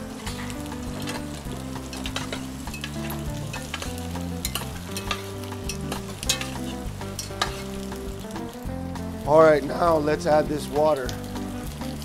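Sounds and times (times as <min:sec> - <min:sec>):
oil popping and crackling: 0:00.0 - 0:12.0
vegetables sizzling in hot oil: 0:00.0 - 0:12.0.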